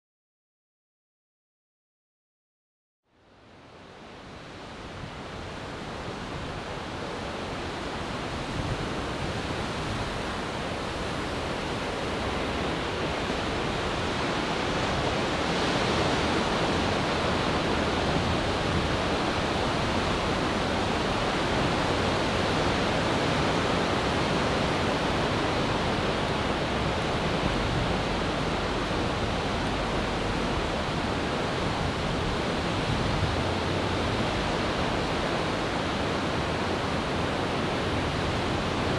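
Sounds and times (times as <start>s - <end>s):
ocean waves breaking: 3.7s - 38.9s.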